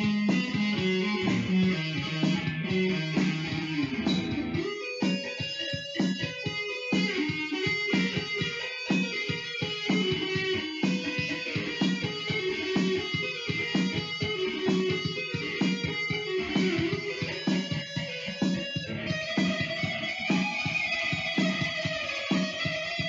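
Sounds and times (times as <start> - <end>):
electric guitar rock music: 0.0 - 23.0
steady beat: 0.0 - 23.0.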